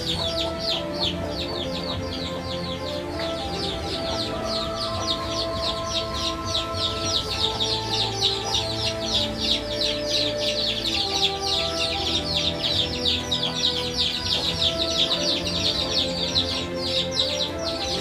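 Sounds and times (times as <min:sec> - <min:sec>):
fast high-pitched chirping: 0:00.0 - 0:18.0
held tones like background music: 0:00.0 - 0:18.0.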